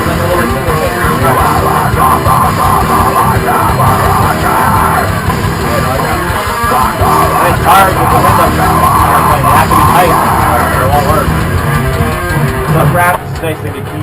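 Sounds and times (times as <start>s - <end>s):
shouted vocals: 0.0s - 11.4s
heavy rock music: 0.0s - 14.0s.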